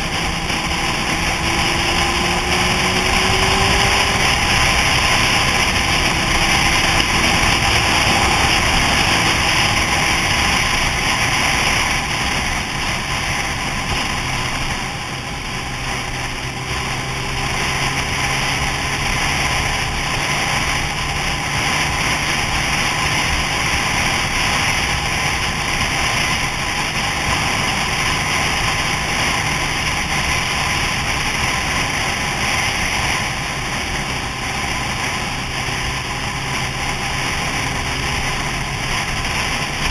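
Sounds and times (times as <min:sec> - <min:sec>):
motorcycle engine drone: 0:00.0 - 0:39.9
wind rushing over microphone: 0:00.0 - 0:39.9.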